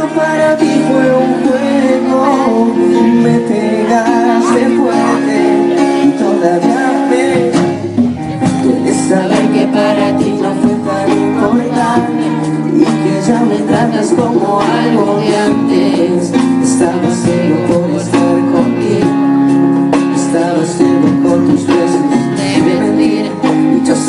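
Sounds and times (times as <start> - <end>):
person singing into microphone: 0.0 - 24.0
strummed acoustic guitar: 0.0 - 24.0.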